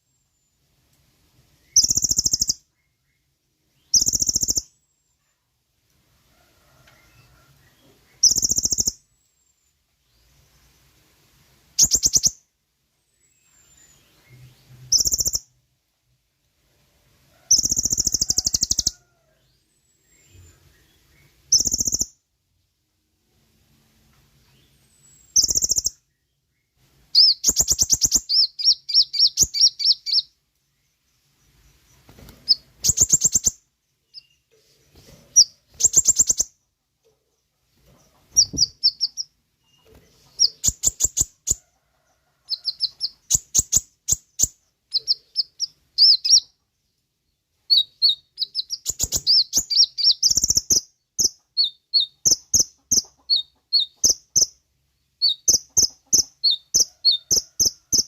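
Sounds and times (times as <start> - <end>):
sunbird chirping trills: 1.5 - 5.2, 7.0 - 10.9, 11.7 - 15.6, 17.5 - 22.3, 24.5 - 34.7, 35.3 - 41.7, 42.5 - 58.0.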